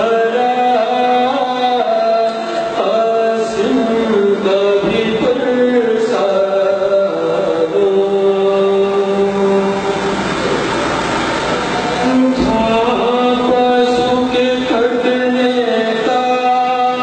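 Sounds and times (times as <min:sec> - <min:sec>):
man chanting melodically: 0:00.0 - 0:10.6, 0:11.8 - 0:17.0.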